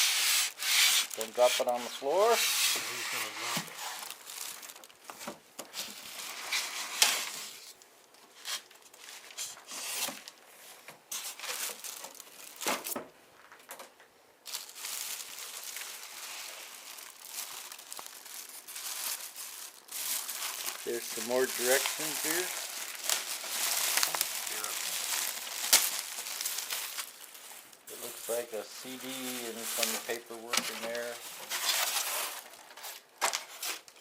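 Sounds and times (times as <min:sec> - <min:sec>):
packaging crinkling and rustling: 0:00.4 - 0:34.0.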